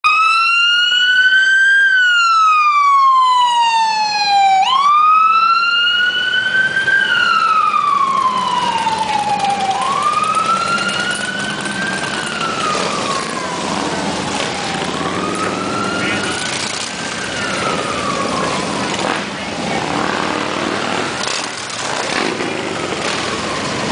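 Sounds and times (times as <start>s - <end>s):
emergency vehicle siren wailing: 0.0s - 23.9s
low rumble of motorcycle engines: 0.4s - 23.9s.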